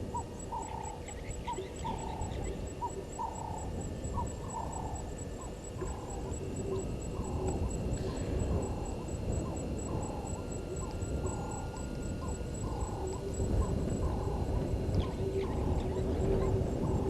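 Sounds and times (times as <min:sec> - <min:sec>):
faint pulsing high tone: 0:00.0 - 0:17.0.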